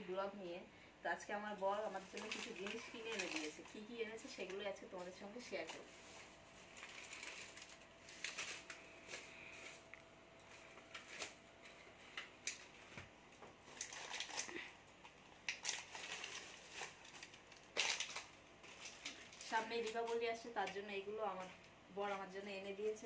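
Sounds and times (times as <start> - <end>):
plastic bag rustling: 1.6 - 20.3.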